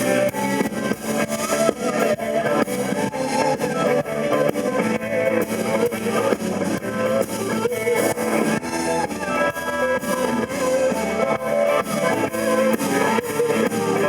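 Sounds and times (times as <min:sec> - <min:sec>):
electric guitar lines: 0:00.0 - 0:14.0
steady drum beat: 0:00.0 - 0:14.0.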